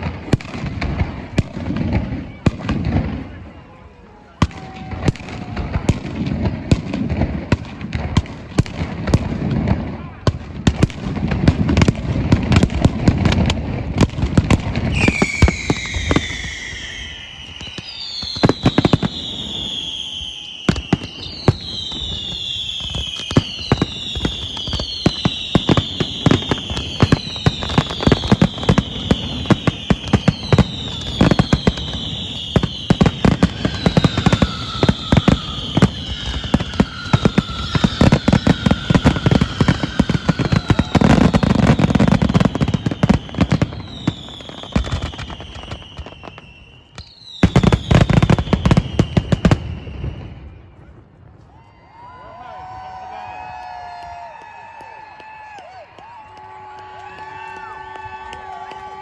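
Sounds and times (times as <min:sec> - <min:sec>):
fireworks bangs and crackles: 0:00.0 - 0:59.0
whistling fireworks: 0:00.0 - 0:59.0.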